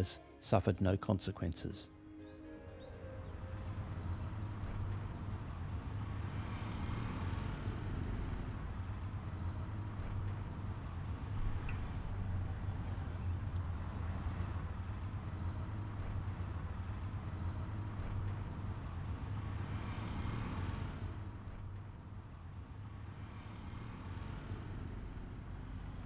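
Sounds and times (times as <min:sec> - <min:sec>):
road and traffic noise: 0:00.0 - 0:26.0
auto-rickshaw engine hum: 0:02.7 - 0:26.0.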